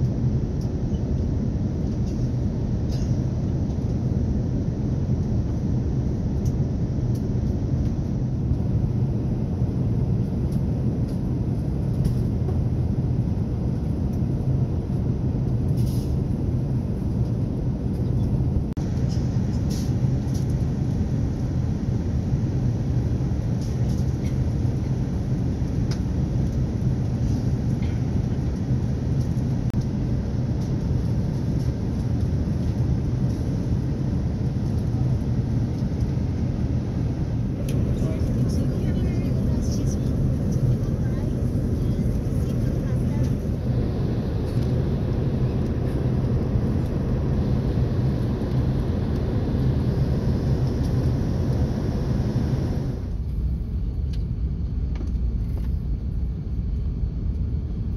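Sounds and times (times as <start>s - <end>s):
airliner cabin rumble: 0.0s - 57.9s.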